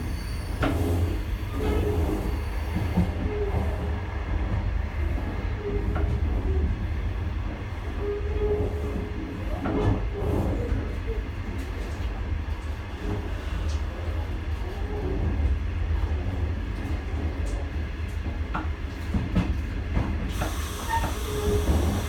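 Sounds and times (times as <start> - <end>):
train rumble inside coach: 0.0 - 22.0.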